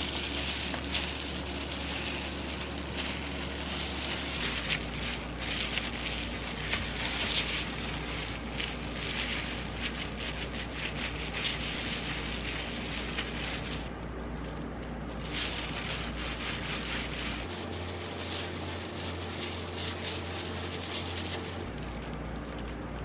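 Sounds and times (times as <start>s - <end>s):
low hum: 0.0s - 23.0s
plastic gloves rustling: 0.0s - 23.0s.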